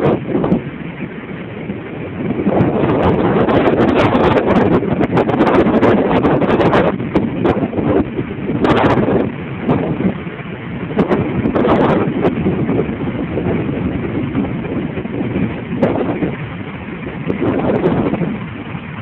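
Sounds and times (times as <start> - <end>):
storm waves breaking against pier: 0.0 - 19.0
wind buffeting microphone: 0.0 - 19.0.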